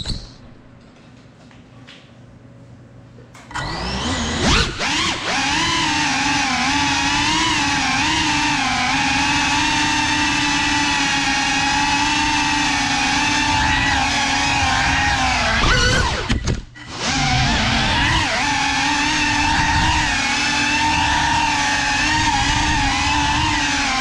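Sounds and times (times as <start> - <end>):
drone propellers whining: 3.5 - 24.0.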